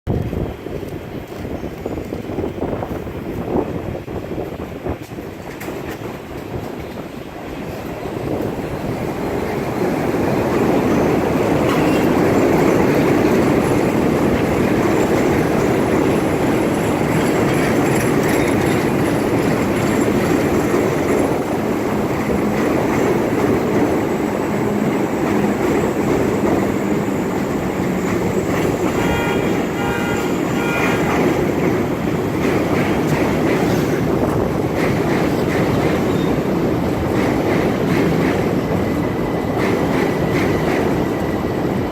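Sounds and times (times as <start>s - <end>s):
train wheels rumbling on track: 0.1s - 41.9s.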